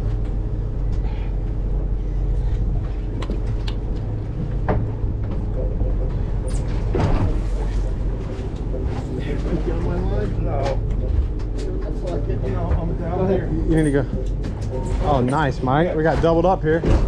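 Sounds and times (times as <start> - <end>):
boat machinery hum: 0.0 - 17.0.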